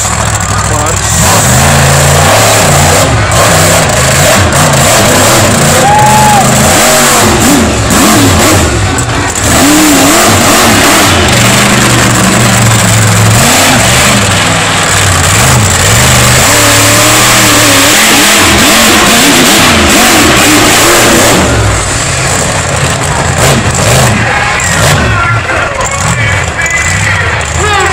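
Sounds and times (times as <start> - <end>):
truck engine revving: 0.0 - 27.9.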